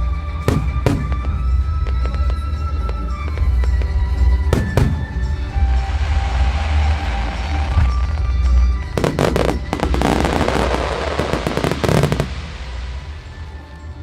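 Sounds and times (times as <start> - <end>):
music playing: 0.0 - 14.0
fireworks crackling: 0.4 - 14.0.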